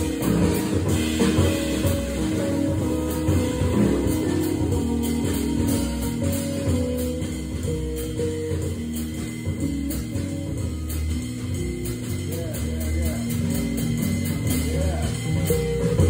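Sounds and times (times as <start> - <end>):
drums with cymbal strikes: 0.0 - 16.0
organ chords and bass line: 0.0 - 16.0.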